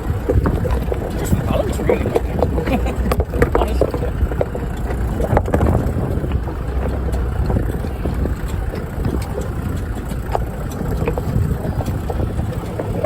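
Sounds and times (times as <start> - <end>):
low engine drone: 0.0 - 13.0
vehicle knocks and rattles: 0.0 - 13.0.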